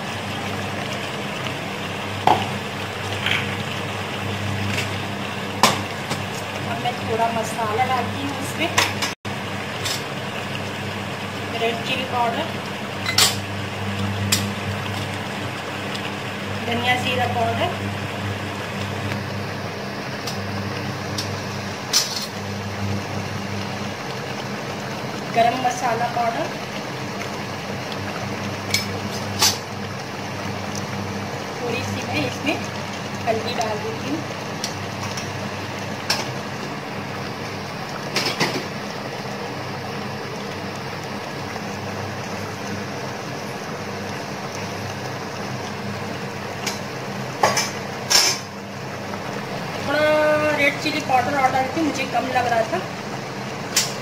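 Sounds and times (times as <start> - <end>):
chicken sizzling in oil: 0.0 - 54.0
induction cooktop humming: 0.0 - 54.0.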